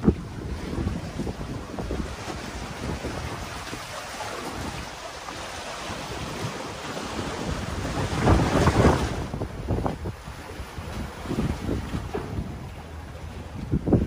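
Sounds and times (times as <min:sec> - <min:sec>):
sea waves washing against rocks: 0:00.0 - 0:14.0
wind buffeting microphone: 0:00.0 - 0:14.0.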